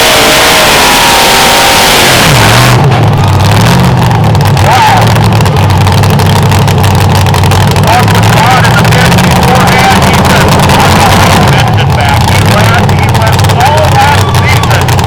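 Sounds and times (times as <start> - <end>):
tractor diesel engine roaring: 0.0 - 15.0.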